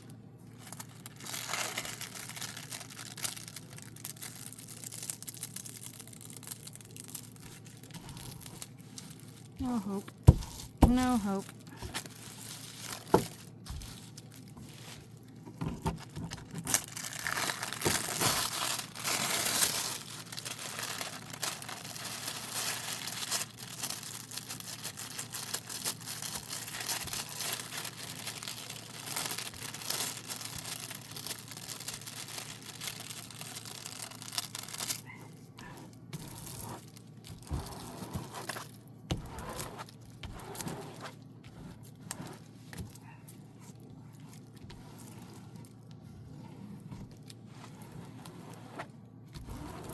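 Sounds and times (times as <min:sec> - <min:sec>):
plastic sheet peeling and crinkling: 0:00.4 - 0:49.9.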